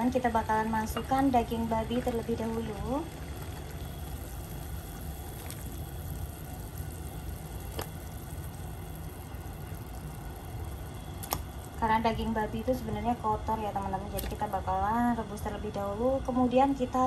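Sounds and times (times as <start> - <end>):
water boiling in pot: 0.0 - 17.0.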